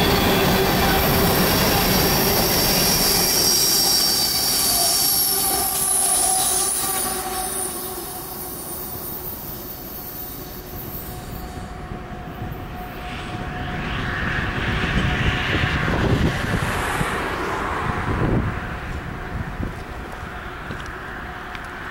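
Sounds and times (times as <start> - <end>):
rushing noise: 0.0 - 21.9
train rumble and wheel whine: 0.0 - 21.9.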